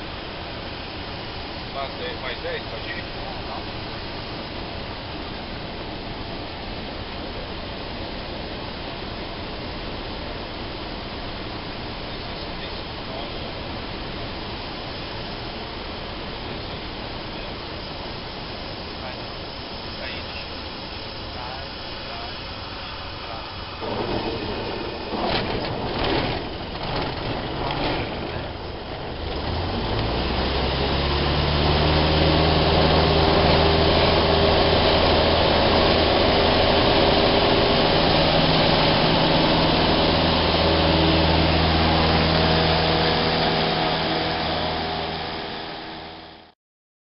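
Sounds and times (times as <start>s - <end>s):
propeller plane engine: 0.0s - 46.6s.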